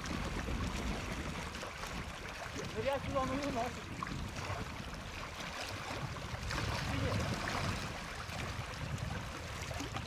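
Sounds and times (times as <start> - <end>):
small waves washing: 0.0 - 10.0
wind rumbling on microphone: 0.0 - 10.0.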